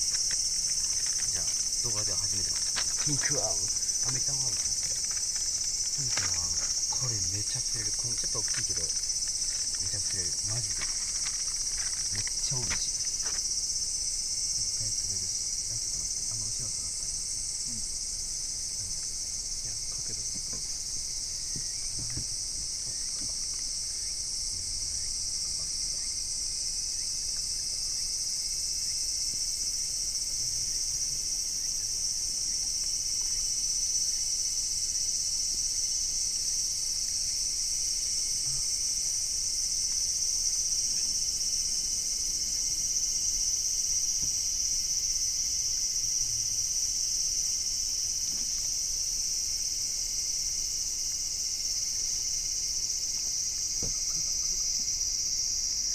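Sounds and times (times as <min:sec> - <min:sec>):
insects shrilling: 0:00.0 - 0:55.9.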